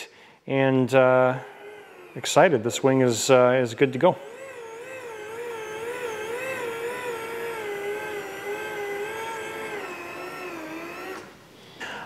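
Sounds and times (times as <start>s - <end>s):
electric motor whining: 1.0s - 11.4s.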